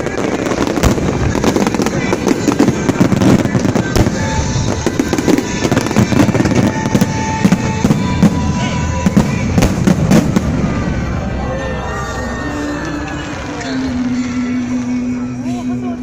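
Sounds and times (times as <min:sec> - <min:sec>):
fireworks bursting: 0:00.0 - 0:15.4
music playing: 0:00.0 - 0:16.0.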